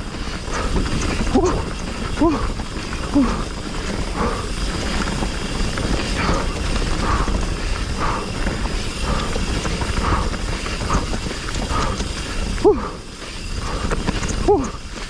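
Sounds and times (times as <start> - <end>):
bike clattering: 0.0 - 15.0
bike tyres rumbling: 0.0 - 15.0
wind rush on microphone: 0.0 - 15.0.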